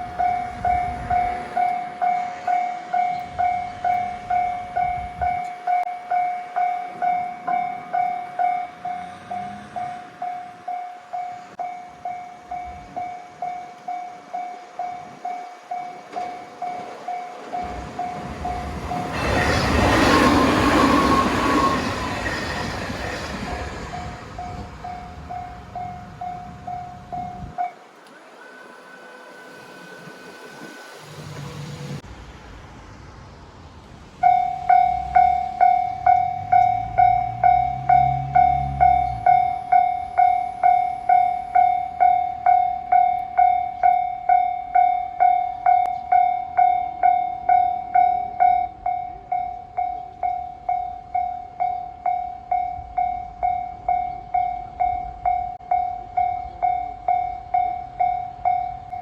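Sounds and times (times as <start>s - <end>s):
level-crossing alarm bell: 0.0s - 32.0s, 34.2s - 59.0s
train passing: 0.0s - 59.0s.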